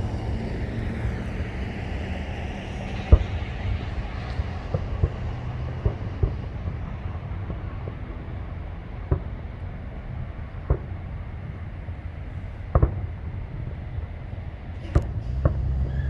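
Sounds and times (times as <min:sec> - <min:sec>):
distant fireworks bangs: 0:03.0 - 0:16.0.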